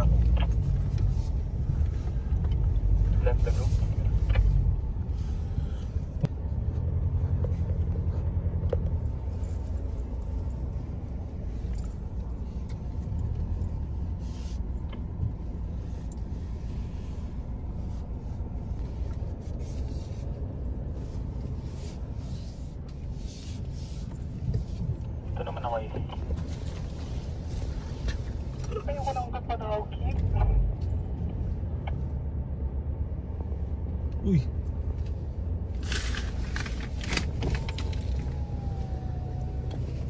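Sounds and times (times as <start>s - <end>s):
engine and tyres rumbling: 0.0s - 40.0s.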